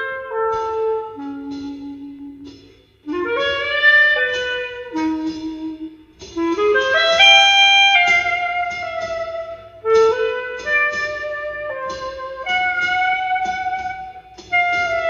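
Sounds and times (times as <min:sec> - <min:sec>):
jazz reed instrument melody: 0:00.0 - 0:15.0.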